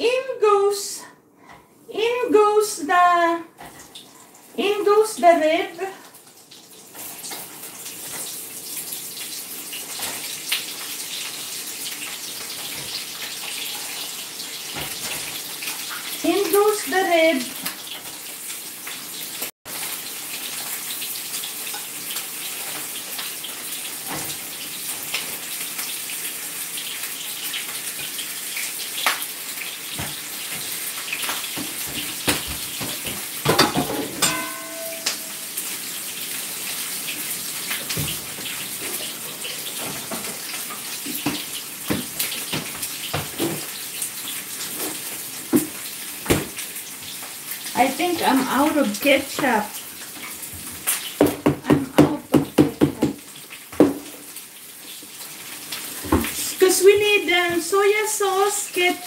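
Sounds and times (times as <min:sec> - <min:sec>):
meat sizzling in a frying pan: 0:06.1 - 0:51.4, 0:52.5 - 0:59.0.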